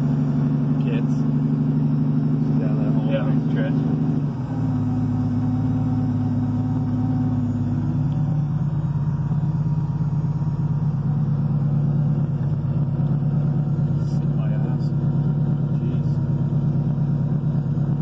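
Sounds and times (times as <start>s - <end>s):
car engine droning inside cabin: 0.0s - 18.0s.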